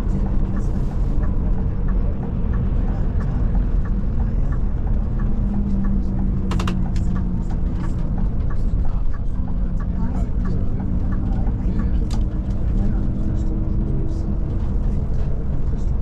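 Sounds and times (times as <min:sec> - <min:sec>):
coach engine and road rumble: 0:00.0 - 0:16.0.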